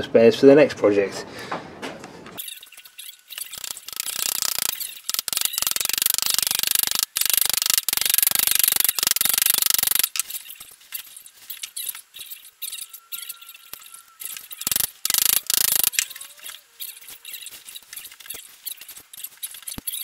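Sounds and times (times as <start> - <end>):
metallic ratcheting clicks: 2.4 - 20.0.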